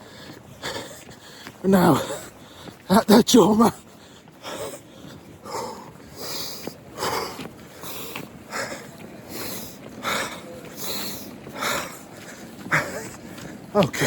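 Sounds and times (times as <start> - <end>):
man breathing hard: 0.0 - 2.9, 3.8 - 14.0.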